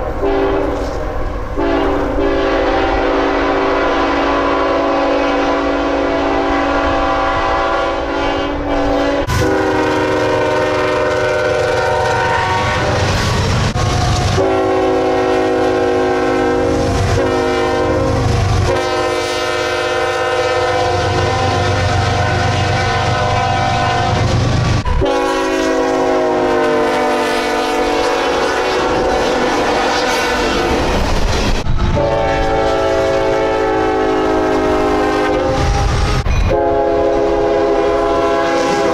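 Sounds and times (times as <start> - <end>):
locomotive air horn chords: 0.0 - 1.0, 1.6 - 30.8, 31.9 - 38.9
train rumble: 0.0 - 38.9.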